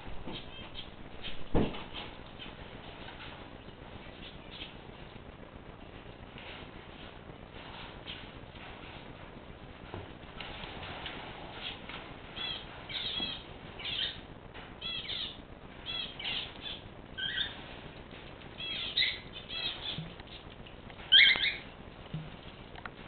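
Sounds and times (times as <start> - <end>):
cage birds chirping: 0.1 - 23.0.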